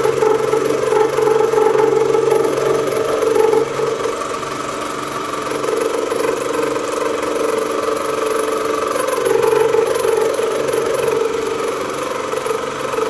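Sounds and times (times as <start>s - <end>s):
cutter grinding steel: 0.0s - 13.0s
milling machine motor drone: 0.0s - 13.0s.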